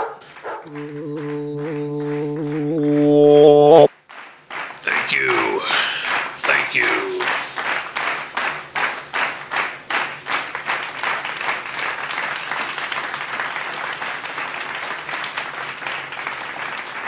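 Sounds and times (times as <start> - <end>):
audience applause: 0.2 - 17.0.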